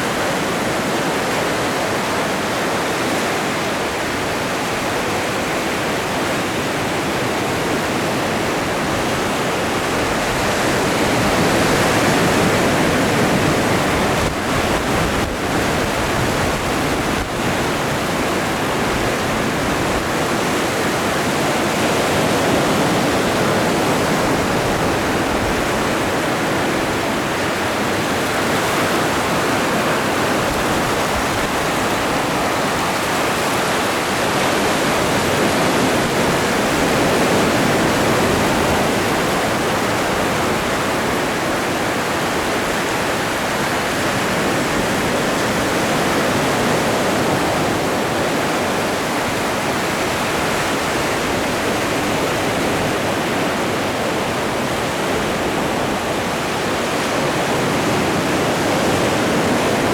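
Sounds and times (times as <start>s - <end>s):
ocean surf breaking waves: 0.0s - 59.9s.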